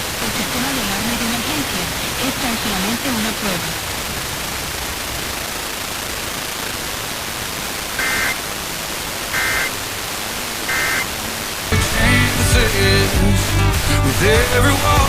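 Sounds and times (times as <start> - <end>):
radio static hiss: 0.0 - 15.0
warbling two-tone data bursts: 2.4 - 15.0.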